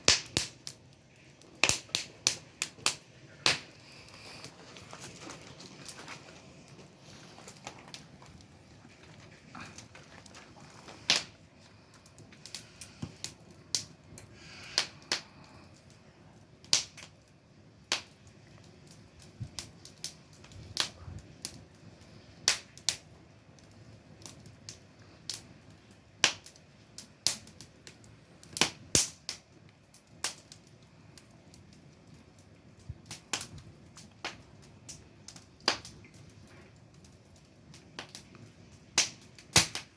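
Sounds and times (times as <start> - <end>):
faint steady hiss: 0.0 - 39.9
wood fire crackling: 0.0 - 39.9.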